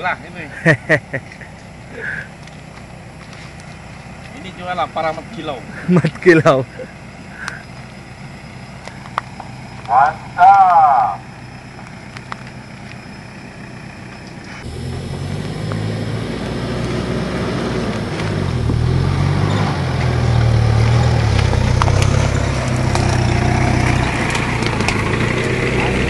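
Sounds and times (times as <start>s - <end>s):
diesel engine pulling at low speed: 0.0s - 26.0s.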